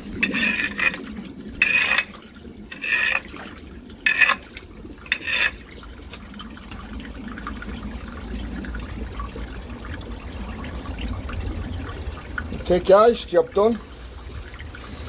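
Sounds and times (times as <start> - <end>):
water trickling in a drain: 0.0 - 15.0.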